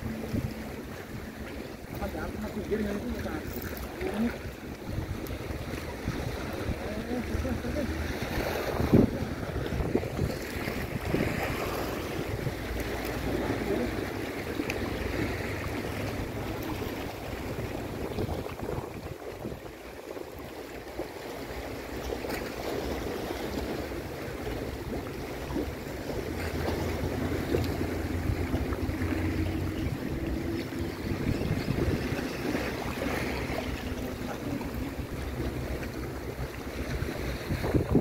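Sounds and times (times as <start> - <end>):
wind buffeting microphone: 0.0 - 20.5, 23.6 - 38.0
waves washing against rocks: 0.0 - 38.0.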